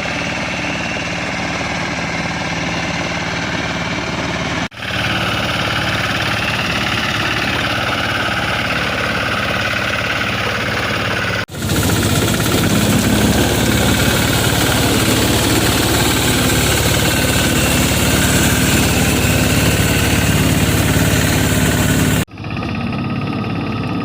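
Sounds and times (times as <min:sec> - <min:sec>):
small tractor engine running: 0:00.0 - 0:24.0.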